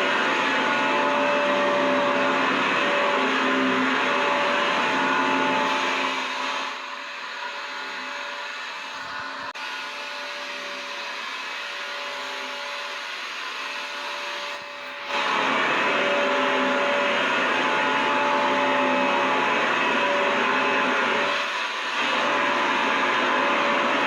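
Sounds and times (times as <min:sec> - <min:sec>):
vacuum cleaner motor running: 0:00.0 - 0:24.0.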